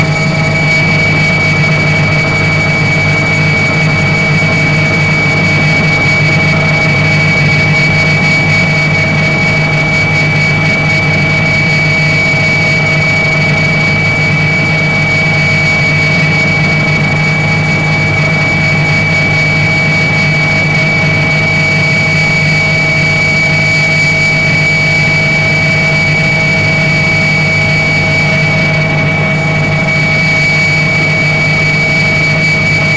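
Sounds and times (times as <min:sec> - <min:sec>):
helicopter cabin drone: 0:00.0 - 0:32.9.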